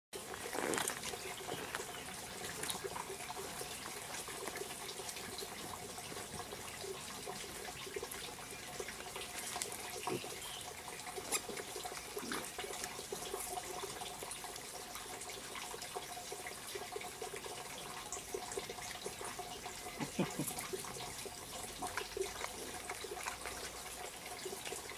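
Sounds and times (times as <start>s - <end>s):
animals rooting in leaf litter: 0.2s - 14.5s, 18.2s - 24.9s
trickle of running water: 0.2s - 24.9s.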